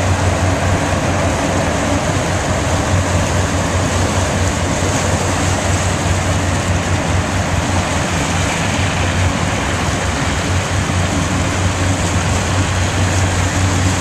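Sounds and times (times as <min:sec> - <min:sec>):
motorboat engine drone: 0:00.0 - 0:14.0
water rushing past boat: 0:00.0 - 0:14.0.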